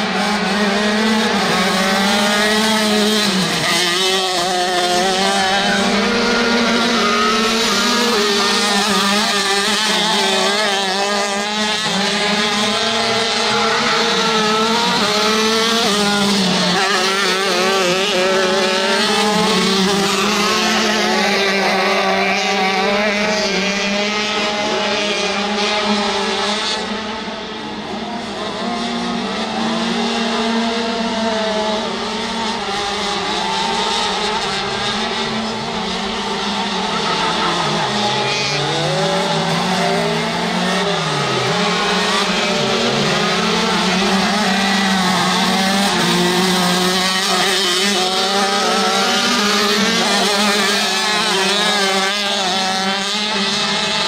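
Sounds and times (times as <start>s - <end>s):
racing kart engines revving: 0.0s - 54.0s.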